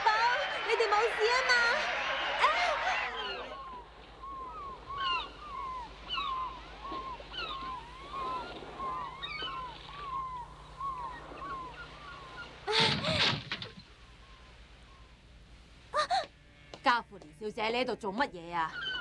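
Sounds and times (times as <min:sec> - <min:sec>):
gulls crying: 0:00.0 - 0:15.2.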